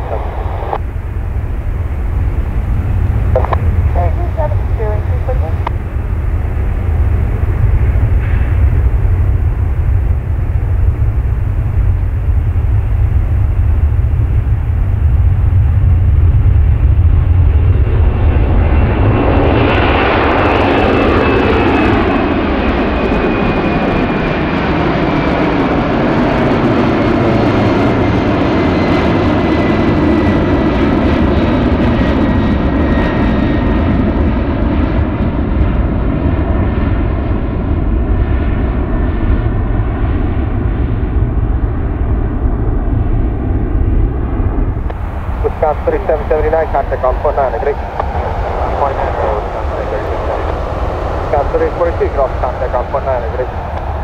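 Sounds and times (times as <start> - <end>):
jet airliner engine roar: 0.0 - 54.0
jet engine whine: 0.0 - 54.0.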